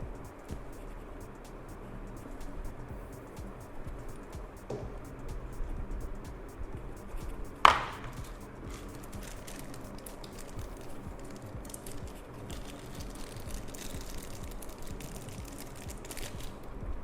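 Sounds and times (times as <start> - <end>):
light ticks and rustles: 0.0 - 17.0
soft background music: 0.0 - 17.0.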